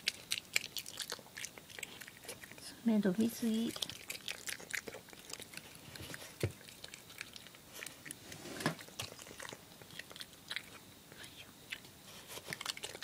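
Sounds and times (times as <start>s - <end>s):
badger chewing: 0.0s - 13.0s.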